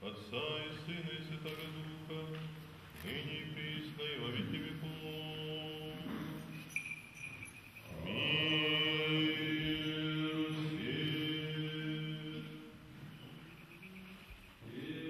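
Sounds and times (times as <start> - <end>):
men singing church chant: 0.0 - 6.6, 7.9 - 13.4, 14.6 - 15.0.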